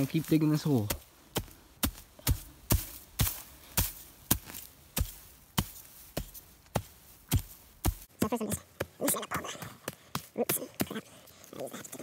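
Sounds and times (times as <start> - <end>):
hatchet chopping into ground: 0.8 - 11.0.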